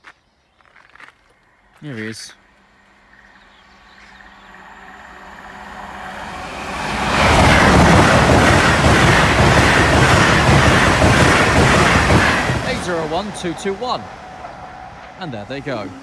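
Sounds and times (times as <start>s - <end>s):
wheel and track noise: 0.6s - 16.0s
electric train rushing past: 2.5s - 16.0s.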